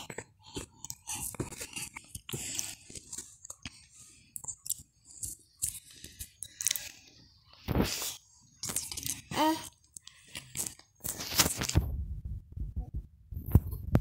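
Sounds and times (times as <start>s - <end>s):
book pages clicking and crinkling: 0.0s - 9.3s, 9.9s - 11.8s.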